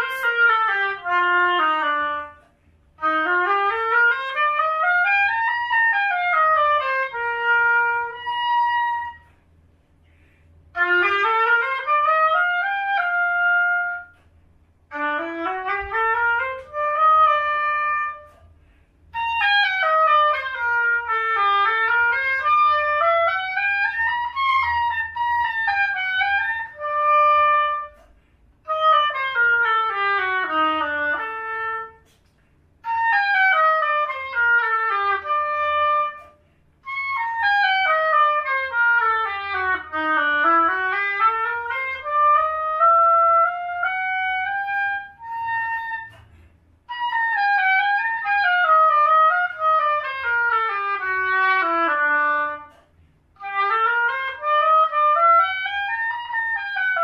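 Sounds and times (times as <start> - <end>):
solo oboe playing runs: 0.0 - 9.4, 10.1 - 14.3, 14.9 - 57.0.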